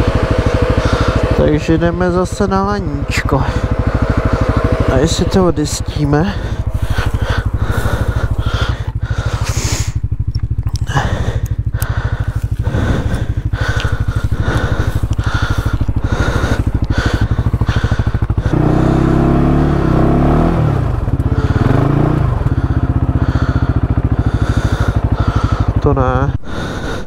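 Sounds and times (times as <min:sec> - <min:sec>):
atv engine idling and revving: 0:00.0 - 0:27.0.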